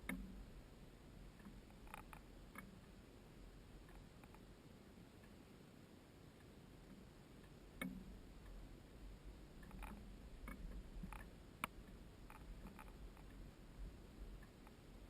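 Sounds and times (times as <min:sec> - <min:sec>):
faint low rumble: 0:00.0 - 0:15.0.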